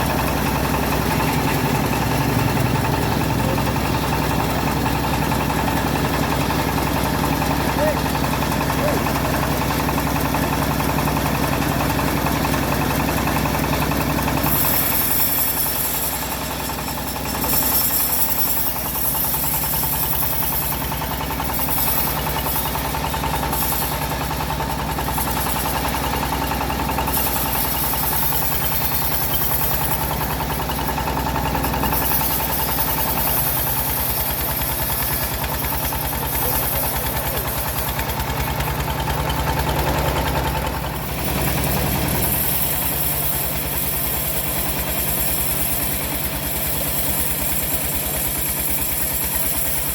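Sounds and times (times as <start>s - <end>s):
bandsaw sawmill engine running: 0.0s - 49.9s.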